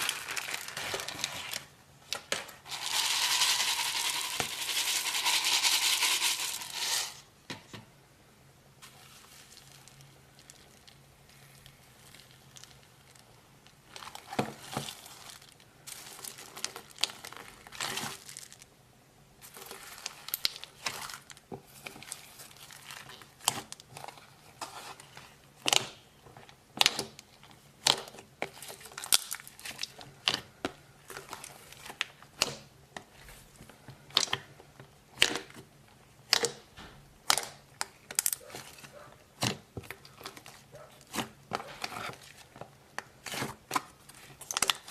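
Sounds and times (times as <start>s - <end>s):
slime crackling crinkle: 0.0s - 7.0s, 8.8s - 18.8s, 19.4s - 36.6s, 37.2s - 44.9s.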